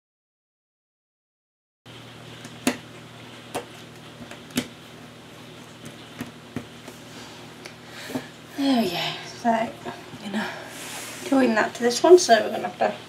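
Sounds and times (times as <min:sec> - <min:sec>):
low background hum: 0:01.9 - 0:13.0.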